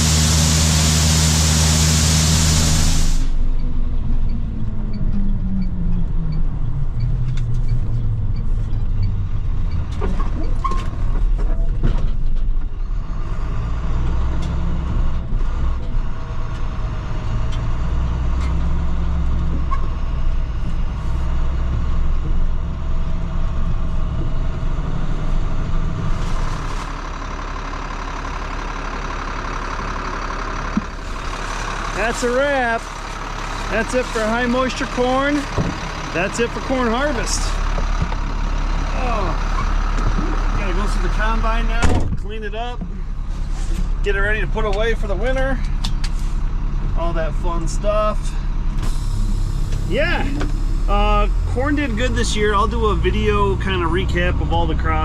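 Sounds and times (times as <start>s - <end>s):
diesel engine running slowly: 0.0s - 55.0s.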